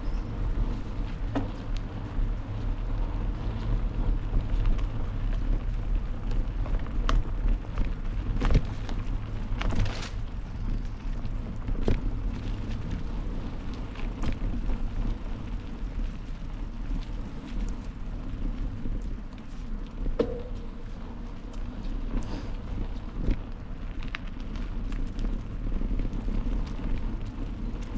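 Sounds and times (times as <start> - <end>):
bike rattling over bumps: 0.0 - 27.9
bike tyres rolling on dirt: 0.0 - 27.9.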